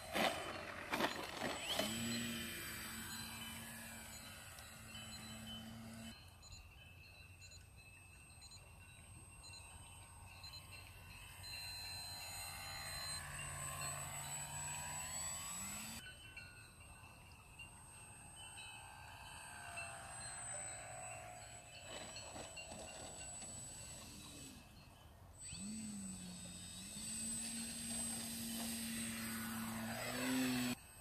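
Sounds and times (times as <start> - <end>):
model plane motor whining: 0.0 - 6.2, 9.4 - 16.0, 17.8 - 31.0.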